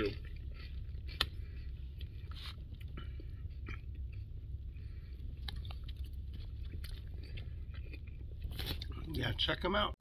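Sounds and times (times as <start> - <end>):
person chewing food: 0.0 - 9.5
steady low hum: 0.0 - 10.0.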